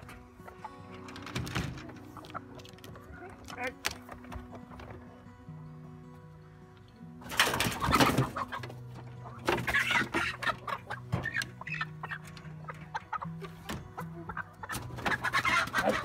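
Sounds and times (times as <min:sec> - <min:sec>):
chickens squawking and clucking: 0:00.0 - 0:05.2, 0:07.2 - 0:16.0.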